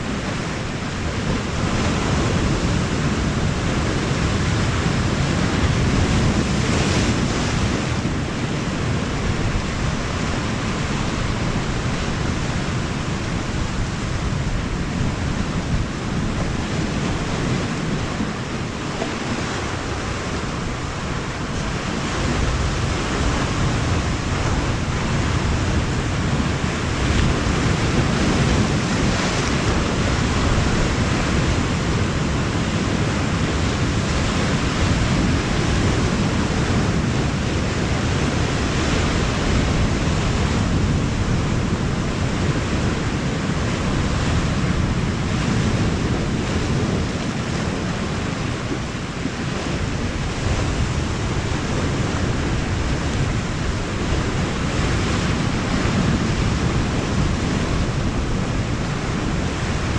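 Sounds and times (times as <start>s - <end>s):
surf on a rocky shore: 0.0s - 59.9s
wind buffeting the microphone: 0.0s - 59.9s.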